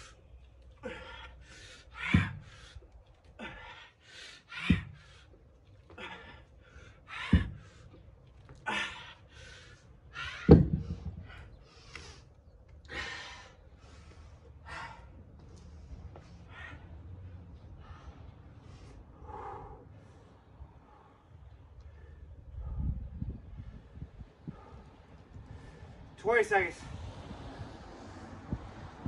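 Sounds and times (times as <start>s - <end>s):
man breathing hard: 0.0s - 26.2s.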